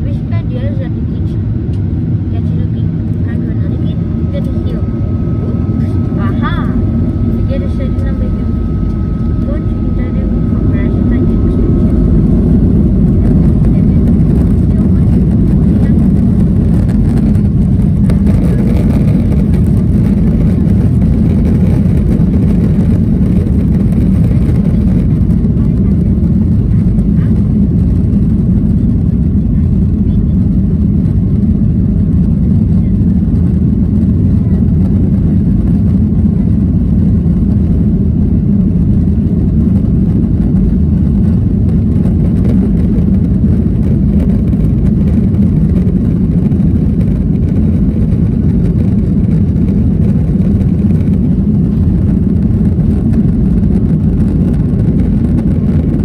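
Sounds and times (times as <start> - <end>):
jet engines at high power: 0.0 - 56.0
wheels rumbling on runway: 0.0 - 56.0.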